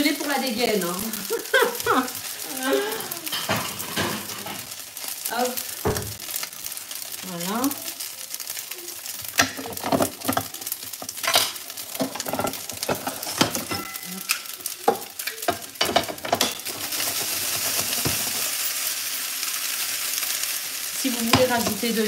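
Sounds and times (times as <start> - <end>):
pasta sizzling in frying pan: 0.0 - 22.0.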